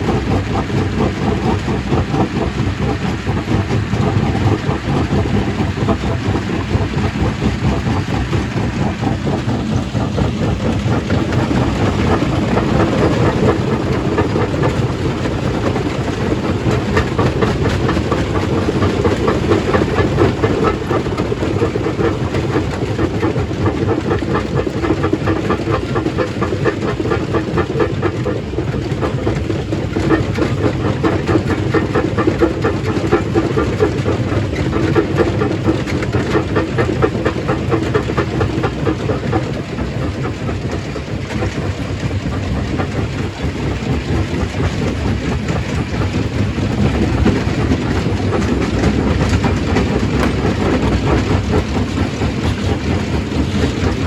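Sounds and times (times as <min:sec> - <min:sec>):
stone crushing machine running: 0:00.0 - 0:54.0.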